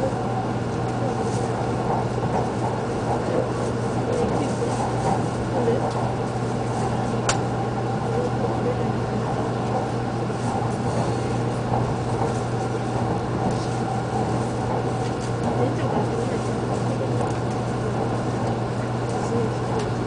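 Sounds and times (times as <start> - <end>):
train interior rumble and hum: 0.0 - 20.0.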